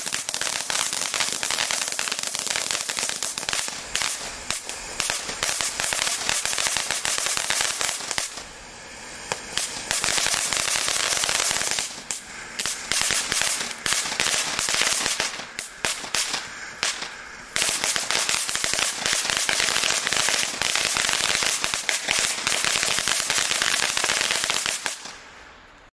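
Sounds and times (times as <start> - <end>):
firework fountain crackling: 0.0 - 25.9.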